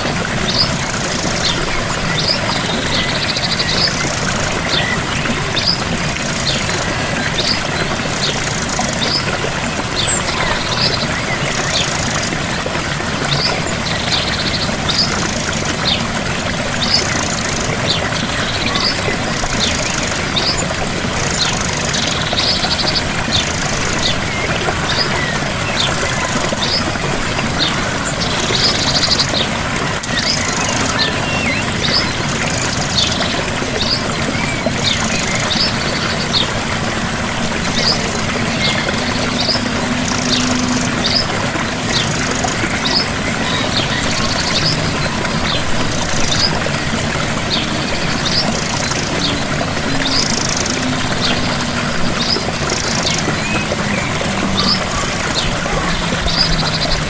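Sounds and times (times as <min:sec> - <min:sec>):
gentle waterfall rushing: 0:00.0 - 0:57.0.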